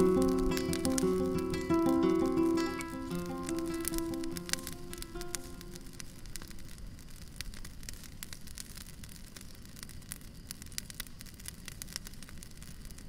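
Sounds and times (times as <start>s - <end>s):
crackling clicks: 0.0s - 13.0s
low rumbling hiss: 0.0s - 13.0s.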